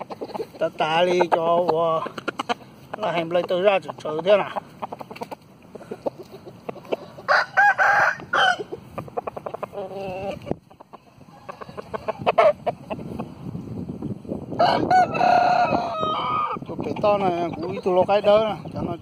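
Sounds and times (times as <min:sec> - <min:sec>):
roosters crowing: 0:00.0 - 0:13.5, 0:14.4 - 0:18.5.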